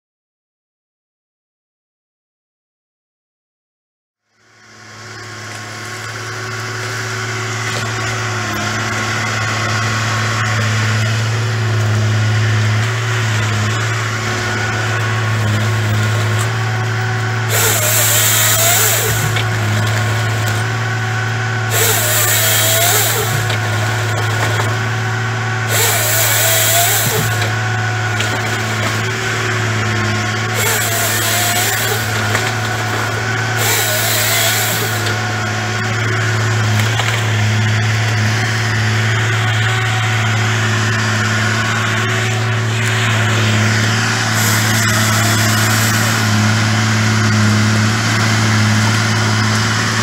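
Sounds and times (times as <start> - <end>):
diesel engine running: 4.3 - 50.0
saw cutting through log: 4.5 - 50.0.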